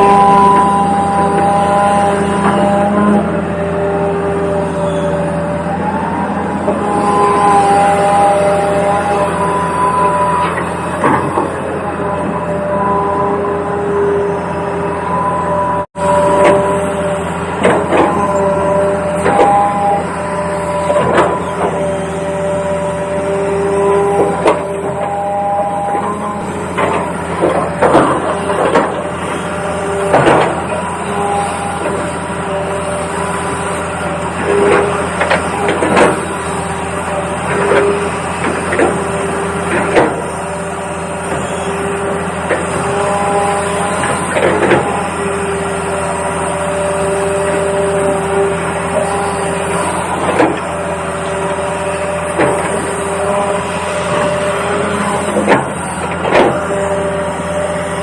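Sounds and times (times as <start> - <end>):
toy excavator motor whirring: 0.0 - 14.9, 15.8 - 58.0.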